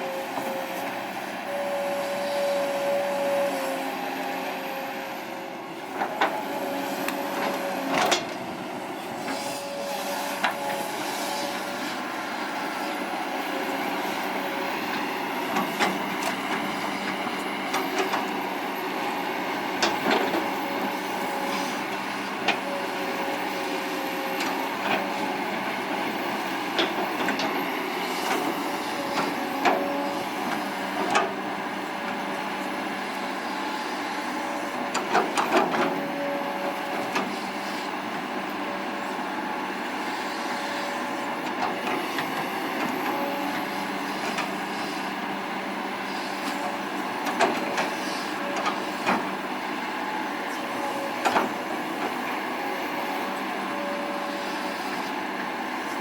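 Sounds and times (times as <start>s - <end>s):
excavator engine and hydraulic hum: 0.0s - 56.0s.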